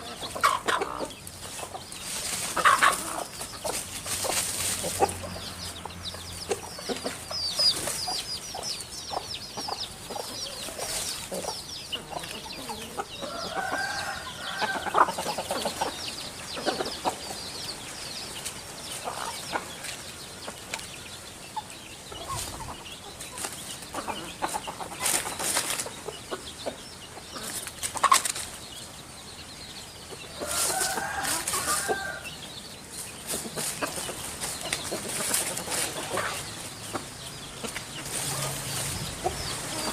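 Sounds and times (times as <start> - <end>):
chickens clucking: 0.0 - 39.9
drawn-out bird calls: 0.0 - 39.9
small birds chirping: 0.0 - 39.9.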